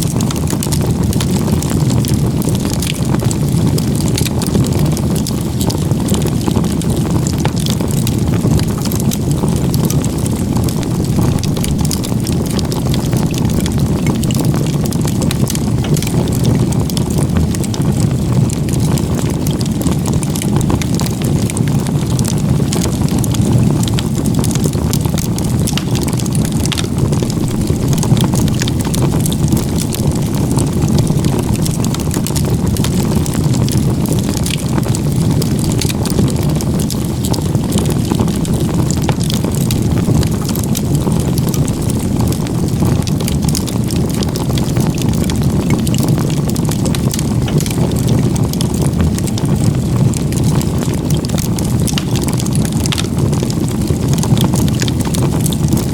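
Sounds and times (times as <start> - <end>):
firewood crackling and popping: 0.0 - 55.9
wood fire roaring: 0.0 - 55.9.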